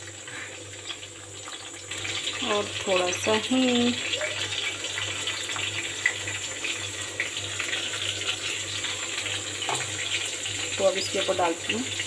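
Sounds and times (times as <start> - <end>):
crackles and pops of frying seeds: 0.0 - 12.0
spices sizzling in hot oil: 0.0 - 12.0.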